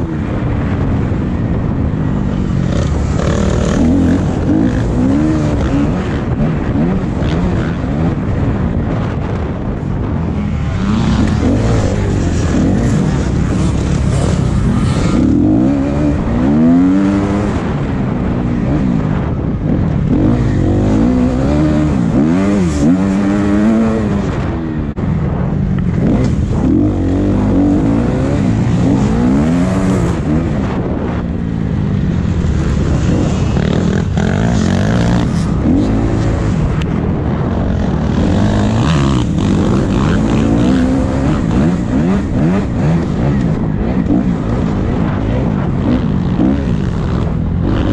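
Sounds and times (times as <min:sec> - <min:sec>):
motocross bike engine revving: 0:00.0 - 0:24.6, 0:25.9 - 0:47.9.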